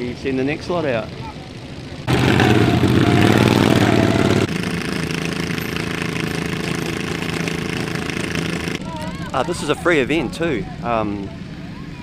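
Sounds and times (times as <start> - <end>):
lawnmower engines running: 0.0 - 12.0.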